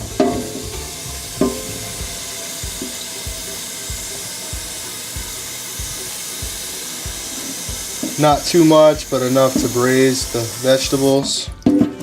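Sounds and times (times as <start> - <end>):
tap water filling a pan: 0.0 - 12.0.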